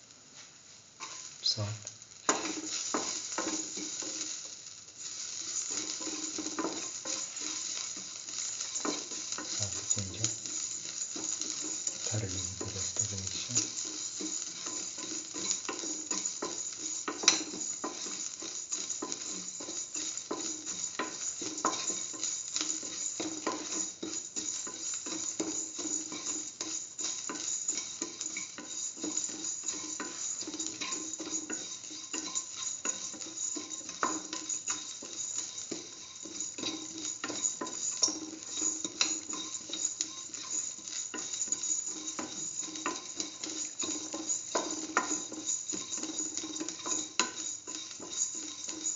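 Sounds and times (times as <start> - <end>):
food sizzling in oil: 0.0 - 48.9
spatula scraping a metal pan: 2.3 - 48.9.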